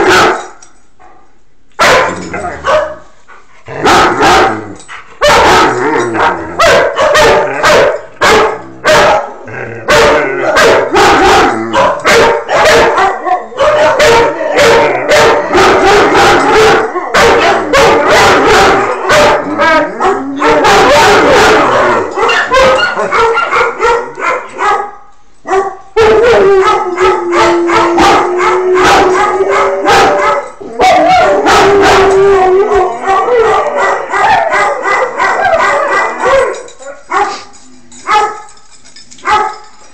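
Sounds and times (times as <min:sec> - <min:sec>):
dogs barking and howling: 0:01.8 - 0:39.8.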